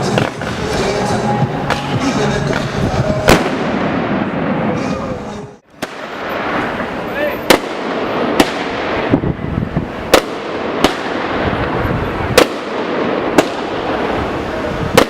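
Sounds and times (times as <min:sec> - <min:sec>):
crowd noise: 0:00.0 - 0:15.0
fireworks bangs: 0:00.0 - 0:15.0
fireworks crackle: 0:00.0 - 0:15.0.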